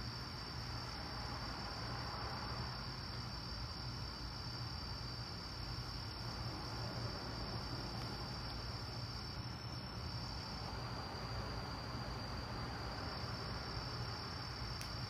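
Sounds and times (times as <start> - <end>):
crickets chirping: 0.0 - 15.0
faint hiss: 0.0 - 15.0.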